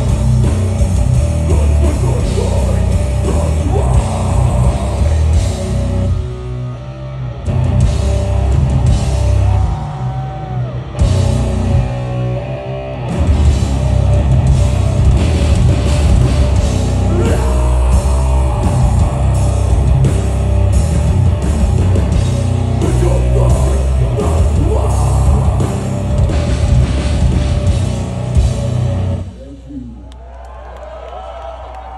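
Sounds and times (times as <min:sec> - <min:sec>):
drum kit: 0:00.0 - 0:06.6, 0:07.5 - 0:10.2, 0:11.0 - 0:12.4, 0:13.0 - 0:29.2
distorted electric guitars: 0:00.0 - 0:29.6
bass guitar: 0:00.0 - 0:30.0.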